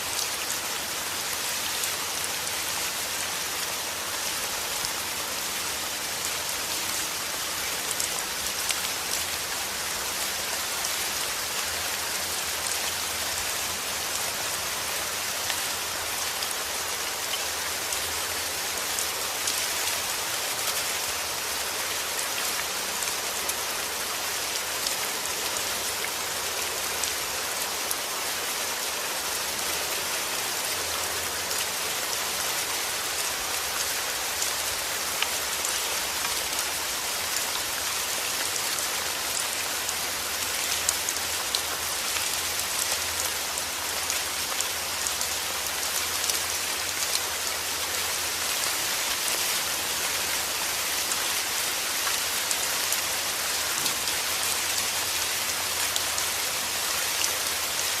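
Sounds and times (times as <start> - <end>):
heavy rain on a hard surface: 0.0 - 58.0.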